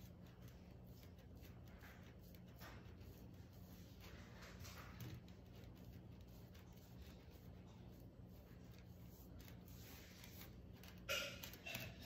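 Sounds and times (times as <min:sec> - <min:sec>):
paintbrush scratching on wood: 0:00.0 - 0:12.0.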